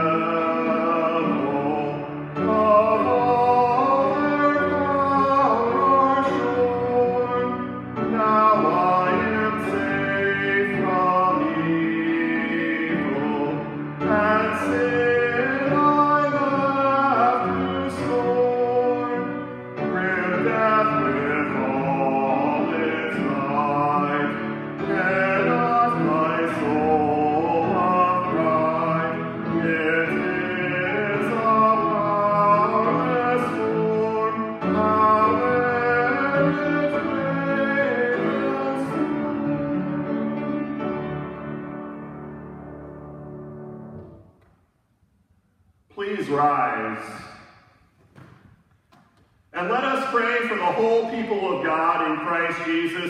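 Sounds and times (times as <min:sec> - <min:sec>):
person singing a hymn: 0:00.0 - 0:44.2, 0:45.9 - 0:47.5, 0:48.9 - 0:53.0
instrumental accompaniment: 0:00.0 - 0:45.0.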